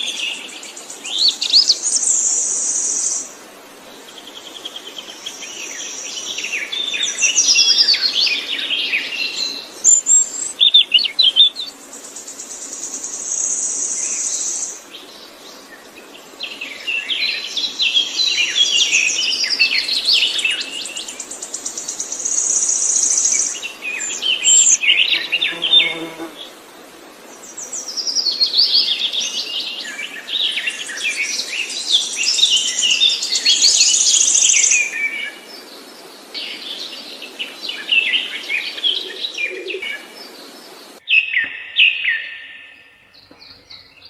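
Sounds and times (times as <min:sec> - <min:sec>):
songbird singing: 0:00.0 - 0:26.6, 0:27.2 - 0:44.0.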